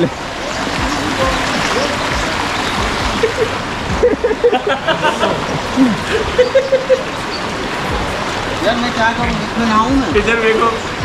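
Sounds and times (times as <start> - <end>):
distant voices: 0.0 - 11.0
water splashing in pool: 0.0 - 11.0.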